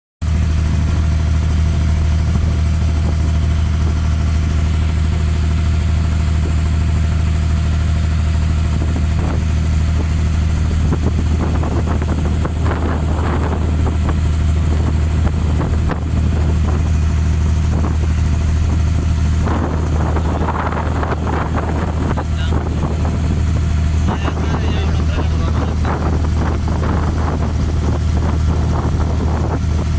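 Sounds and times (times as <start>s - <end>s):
boat diesel engine humming: 0.2s - 29.9s.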